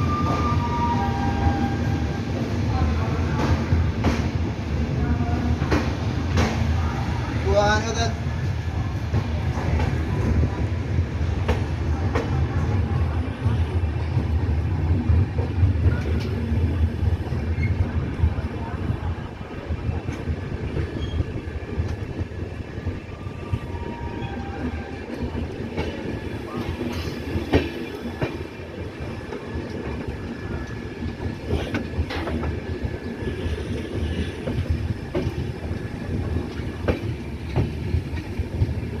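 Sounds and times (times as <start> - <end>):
train coaches rumbling: 0.0 - 39.0.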